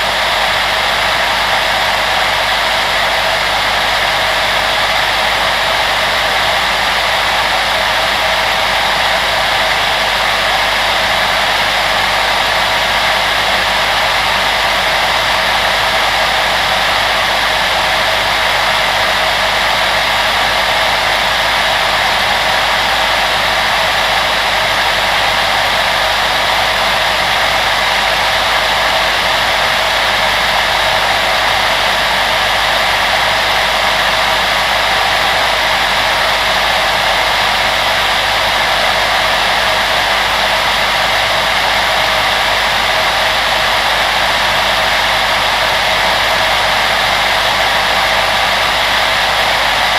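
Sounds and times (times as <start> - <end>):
electric fan blowing air: 0.0 - 49.9.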